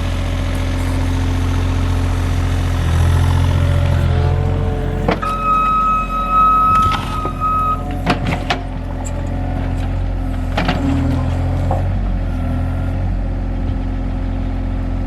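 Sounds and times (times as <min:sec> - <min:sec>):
hydraulic whine: 0:00.0 - 0:13.8
excavator engine running: 0:00.0 - 0:15.0.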